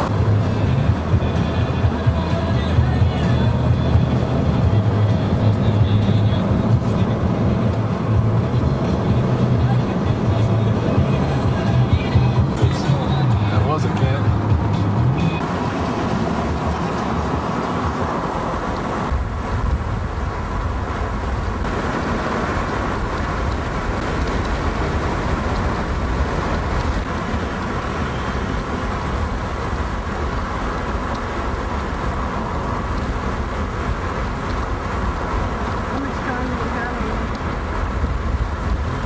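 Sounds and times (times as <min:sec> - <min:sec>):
car road and engine noise: 0:00.0 - 0:39.0
low rumble: 0:00.0 - 0:39.0.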